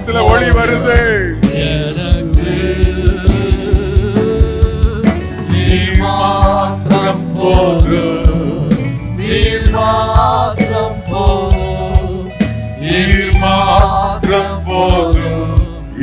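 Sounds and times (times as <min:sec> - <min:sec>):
band accompaniment: 0:00.0 - 0:16.0
male and female voices singing: 0:00.0 - 0:16.0
steady drum beat: 0:00.0 - 0:16.0.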